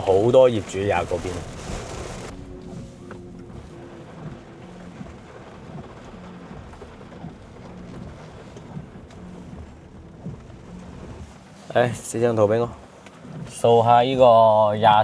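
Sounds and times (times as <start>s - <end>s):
wind buffeting: 0.0s - 12.8s
car driving rumble: 0.0s - 14.3s.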